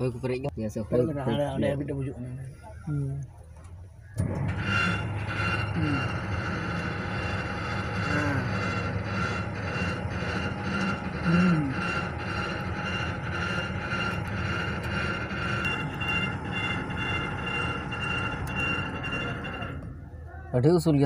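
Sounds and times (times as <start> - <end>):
boat engine running: 3.0 - 20.2.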